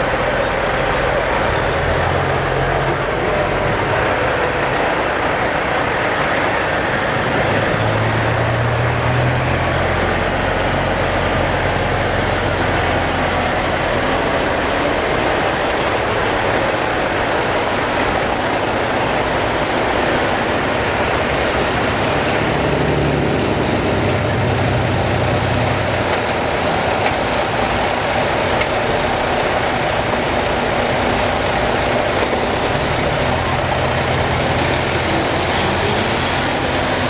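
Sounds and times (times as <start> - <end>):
diesel trucks driving past: 0.0 - 37.0.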